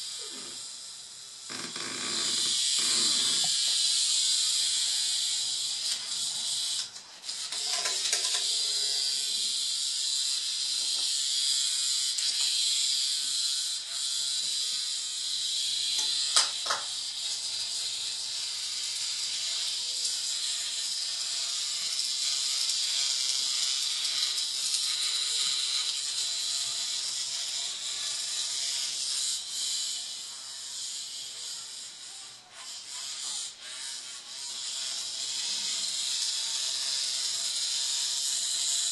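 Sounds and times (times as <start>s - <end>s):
vibrating toy buzzing on tile: 0.0s - 38.9s.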